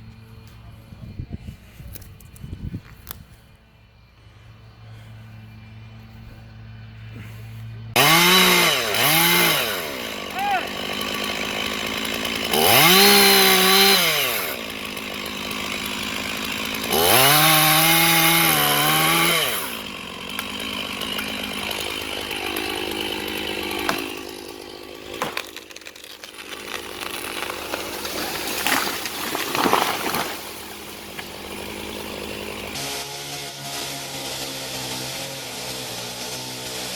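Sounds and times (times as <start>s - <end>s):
chainsaw revving and idling: 4.0s - 36.9s.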